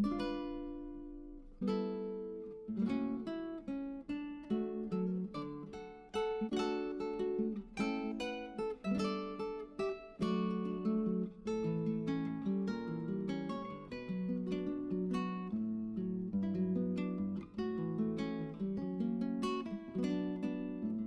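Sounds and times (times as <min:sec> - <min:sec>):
plucked acoustic guitar melody: 0:00.0 - 0:21.0.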